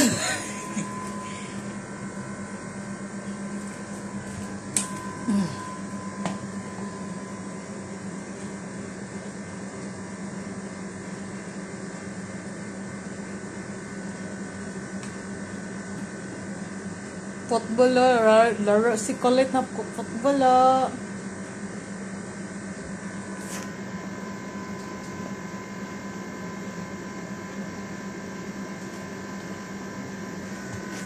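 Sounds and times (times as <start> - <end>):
electrical appliance hum: 0.0 - 31.0.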